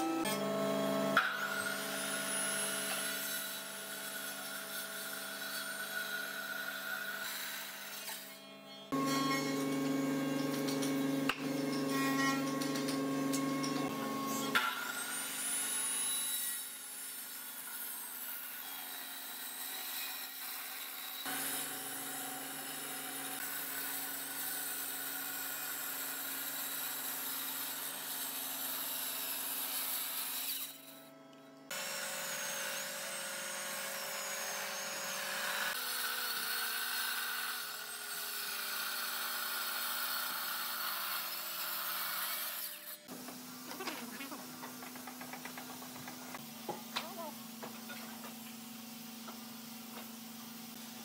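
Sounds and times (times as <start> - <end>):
saw blade cutting wood: 0.2 - 31.1, 31.7 - 48.6.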